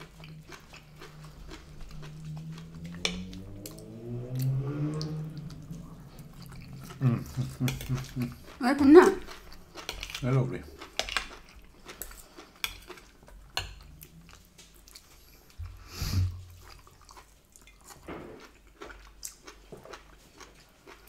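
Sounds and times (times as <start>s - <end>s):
people chewing: 0.0s - 21.0s.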